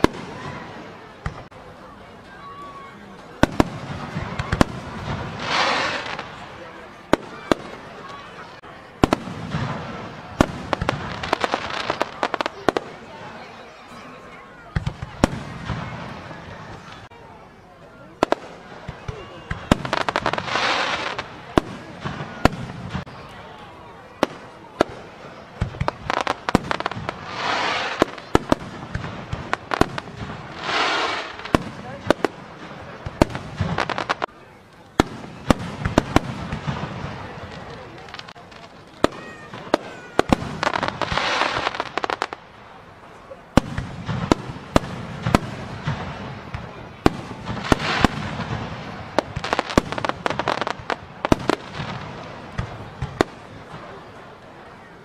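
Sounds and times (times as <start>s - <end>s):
fireworks bangs: 0.0s - 1.7s, 2.3s - 13.7s, 14.6s - 17.2s, 18.1s - 54.9s
hissing crackle of fireworks: 0.0s - 55.0s.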